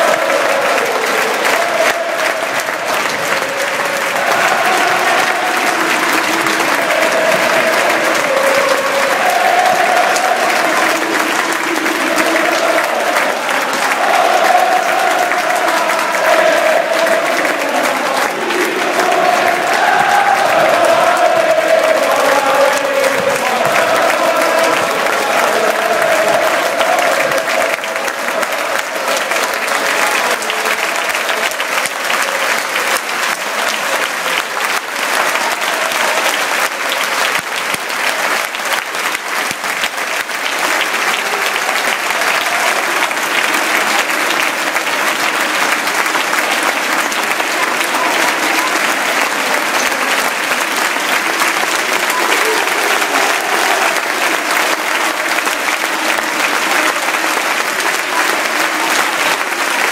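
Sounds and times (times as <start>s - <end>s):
crowd clapping: 0.0s - 59.9s
crowd voices: 0.0s - 59.9s.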